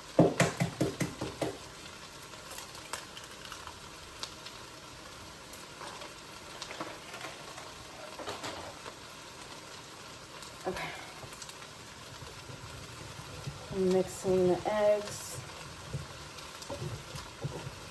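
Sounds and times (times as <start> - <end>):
food sizzling in a pan: 0.0 - 17.9.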